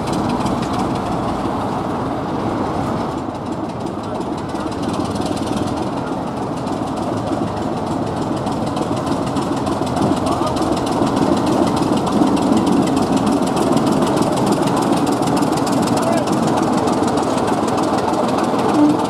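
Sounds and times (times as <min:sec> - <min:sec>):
diesel locomotive engine passing: 0:00.0 - 0:19.0.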